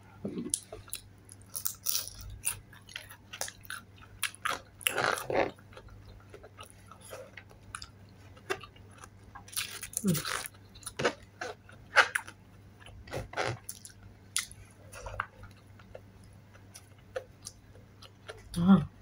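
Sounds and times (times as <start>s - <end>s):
chewing crunches: 0.5s - 18.6s.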